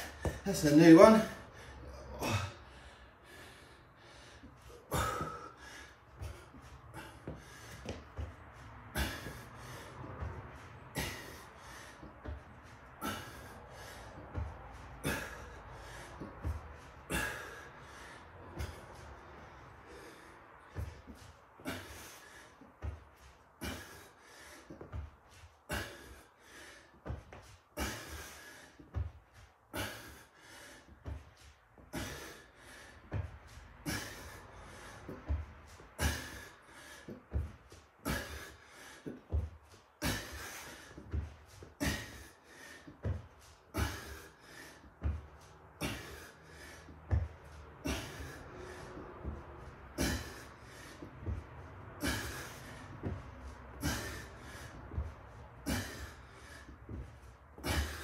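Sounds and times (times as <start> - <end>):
man breathing hard: 0.0 - 58.0.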